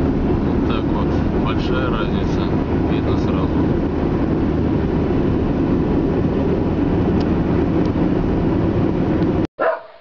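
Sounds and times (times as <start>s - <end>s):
car engine and tyres drone: 0.0s - 9.5s.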